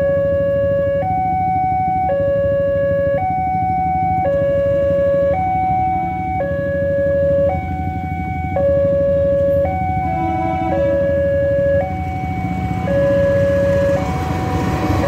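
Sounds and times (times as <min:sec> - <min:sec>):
two-tone level crossing alarm: 0:00.0 - 0:15.0
motorcycle engines idling: 0:00.1 - 0:15.0.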